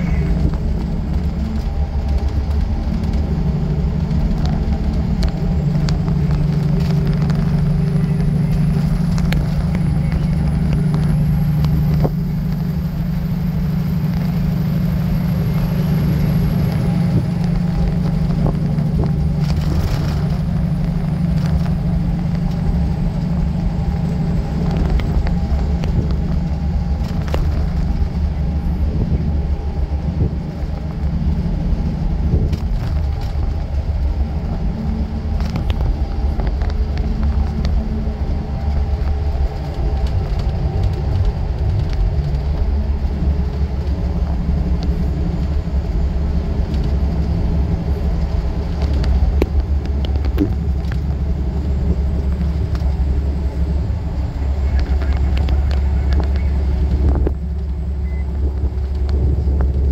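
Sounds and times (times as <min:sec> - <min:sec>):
truck engine droning: 0:00.0 - 0:59.9
tyre noise on wet road: 0:00.0 - 0:59.9.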